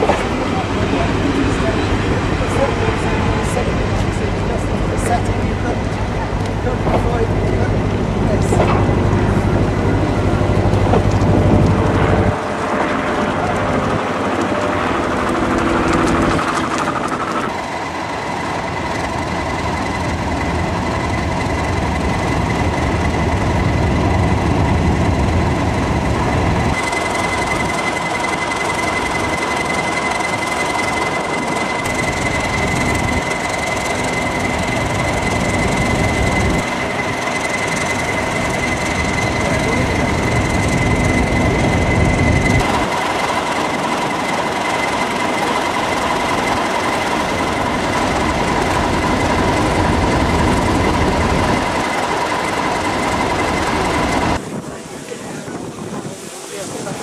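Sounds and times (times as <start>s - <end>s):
high-pitched whine: 0.0s - 57.0s
train wheels rumbling on rails: 0.0s - 57.0s.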